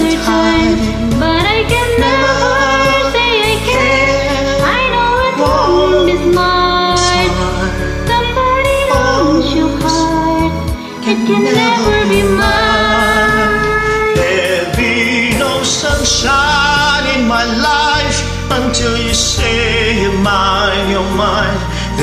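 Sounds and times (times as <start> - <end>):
man singing: 0.0 - 8.1, 11.0 - 22.0
slow ballad backing track: 0.0 - 22.0.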